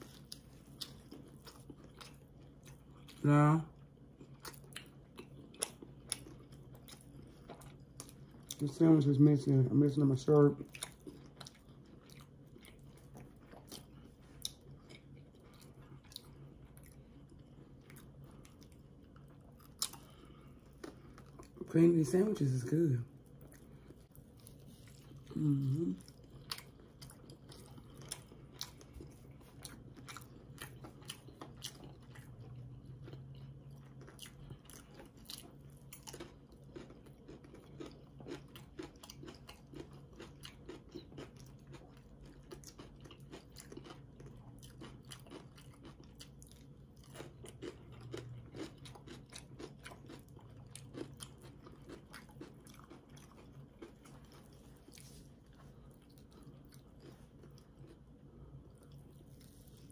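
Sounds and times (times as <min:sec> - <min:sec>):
person chewing: 0:00.0 - 0:09.1, 0:10.2 - 0:59.9
faint low hum: 0:00.0 - 0:59.9.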